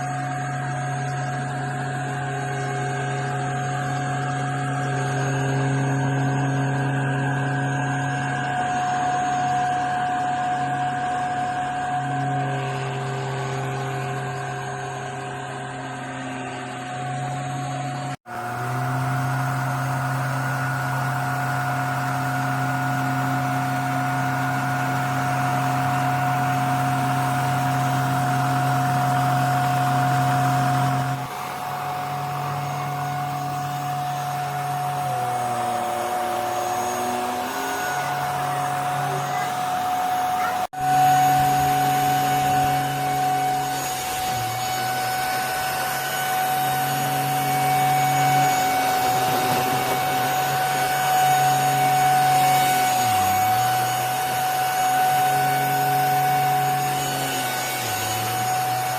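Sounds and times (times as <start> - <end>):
handheld vacuum cleaner motor: 0.0 - 58.9.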